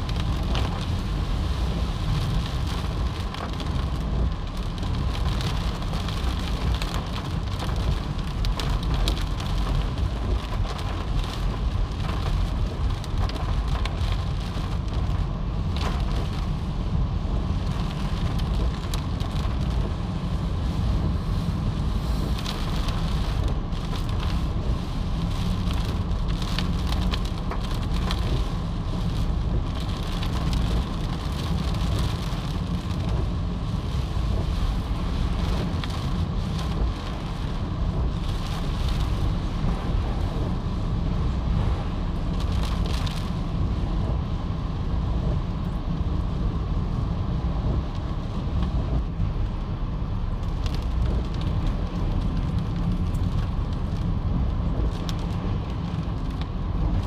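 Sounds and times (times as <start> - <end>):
deep continuous rumble: 0.0 - 57.0.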